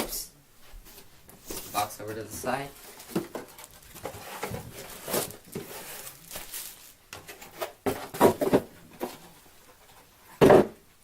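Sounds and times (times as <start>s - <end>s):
cardboard packaging rustling: 1.0s - 10.2s.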